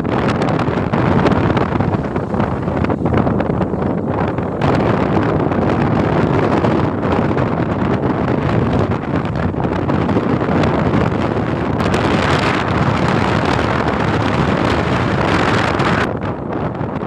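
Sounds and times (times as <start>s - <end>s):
big waves breaking: 0.0s - 17.0s
storm wind on microphone: 0.0s - 17.0s.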